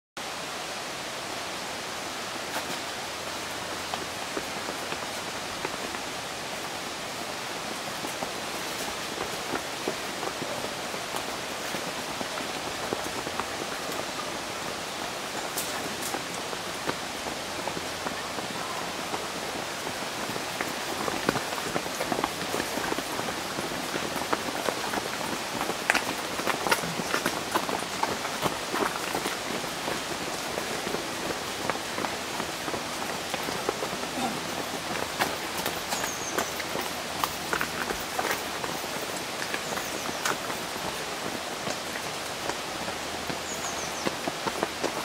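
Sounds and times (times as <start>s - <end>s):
runners' footsteps on stony path: 2.2s - 45.0s.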